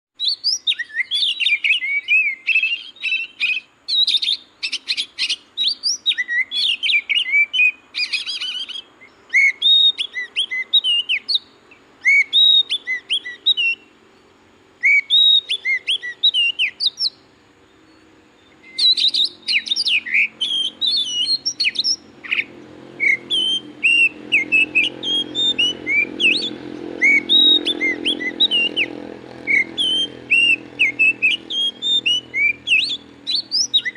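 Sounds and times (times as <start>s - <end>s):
bird song whistles and chirps: 0.2s - 33.9s.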